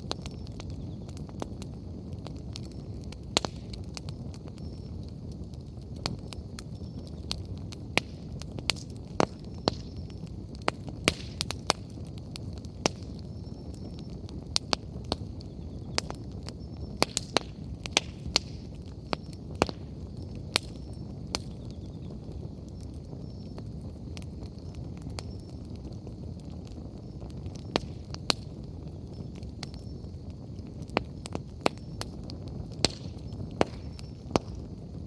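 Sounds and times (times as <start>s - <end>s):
bonfire crackling and popping: 0.0s - 35.0s
low rumble of flames: 0.0s - 35.0s.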